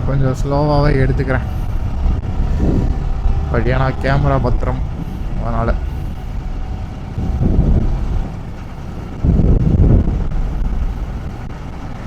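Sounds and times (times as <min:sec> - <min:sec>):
motorcycle engine: 0:00.0 - 0:12.0
road rumble: 0:00.0 - 0:12.0
wind buffeting microphone: 0:00.0 - 0:12.0.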